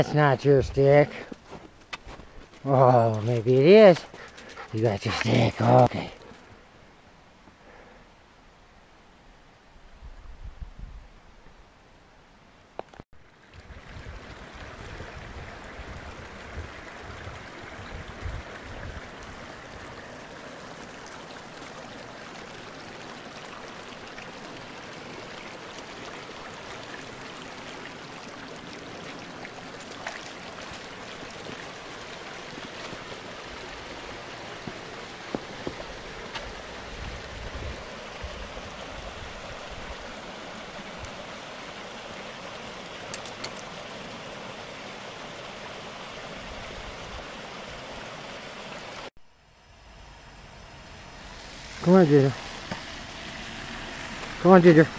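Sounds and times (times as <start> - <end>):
creek water rushing: 0.0 - 9.2, 13.2 - 54.9.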